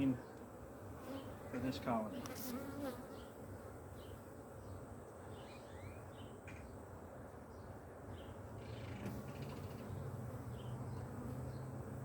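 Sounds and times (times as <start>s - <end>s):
honeybees humming: 0.0s - 12.0s.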